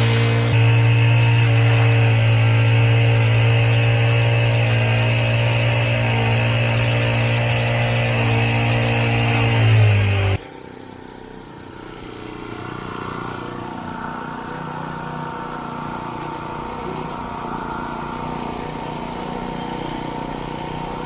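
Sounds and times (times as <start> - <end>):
small gas engine running: 0.0 - 21.0.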